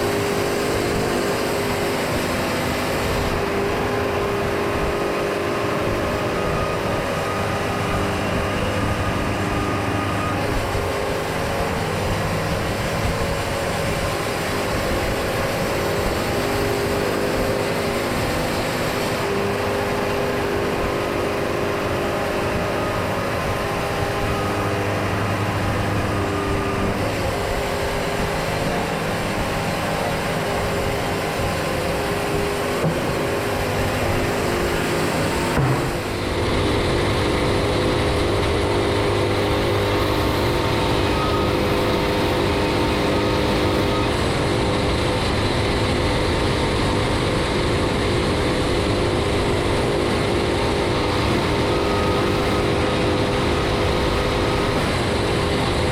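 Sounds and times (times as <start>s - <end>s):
band sawmill running: 0.0s - 55.9s.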